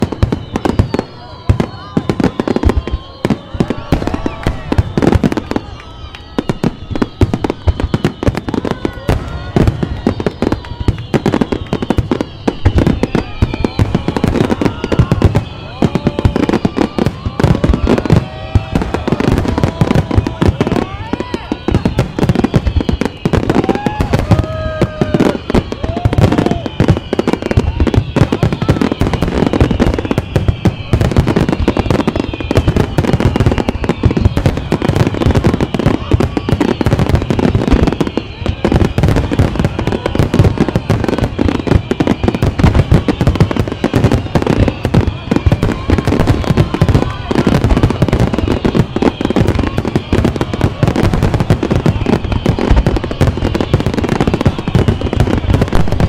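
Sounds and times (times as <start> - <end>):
fireworks bangs and crackles: 0.0 - 56.0
fireworks whistles falling in pitch: 0.0 - 56.0.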